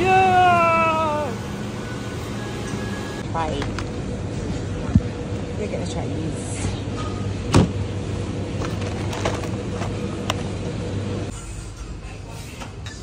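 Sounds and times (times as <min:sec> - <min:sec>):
refrigeration hum: 0:00.0 - 0:13.0.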